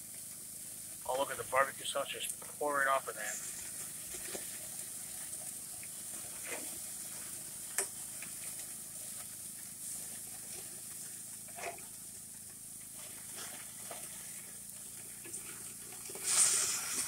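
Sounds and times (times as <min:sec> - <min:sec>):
patties sizzling on a grill: 0:00.0 - 0:17.0.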